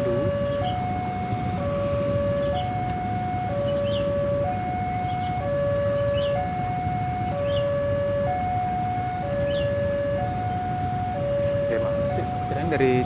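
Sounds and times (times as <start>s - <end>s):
level crossing two-tone alarm: 0.0s - 13.0s
traffic rumble: 0.0s - 13.0s.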